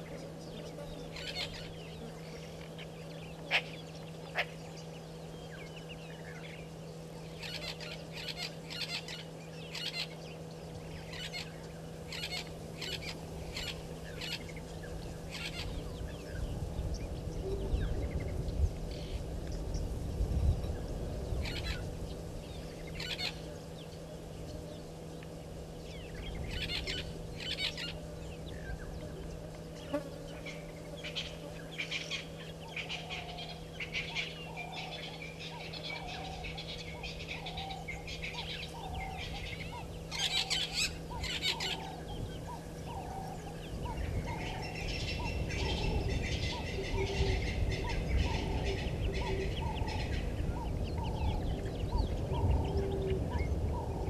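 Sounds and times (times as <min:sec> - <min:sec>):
steady low hum: 0:00.0 - 0:54.0
wild birds calling: 0:00.0 - 0:54.0.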